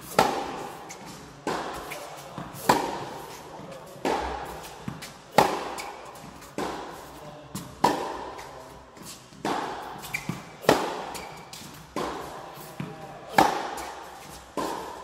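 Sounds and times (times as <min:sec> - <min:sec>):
tennis ball hit by racket: 0:00.0 - 0:07.0, 0:07.6 - 0:15.0.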